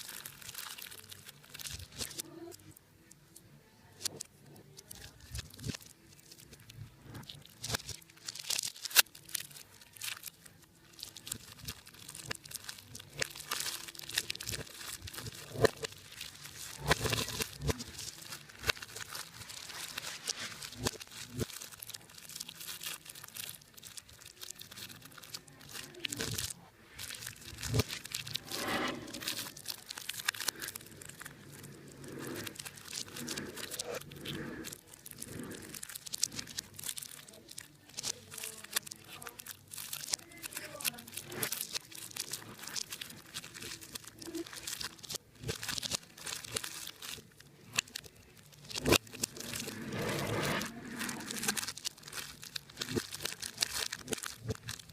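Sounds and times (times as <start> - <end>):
material crinkling and tearing by hand: 0.0 - 54.9.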